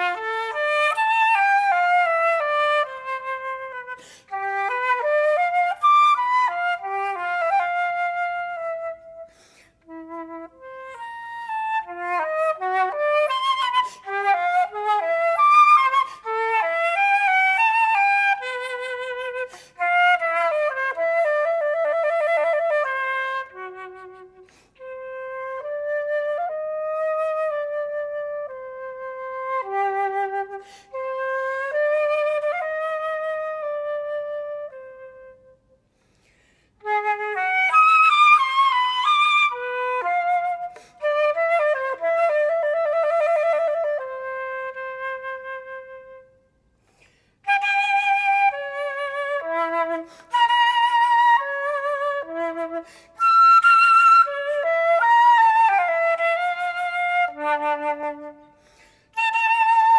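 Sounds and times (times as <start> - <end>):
solo flute melody: 0.0 - 59.9.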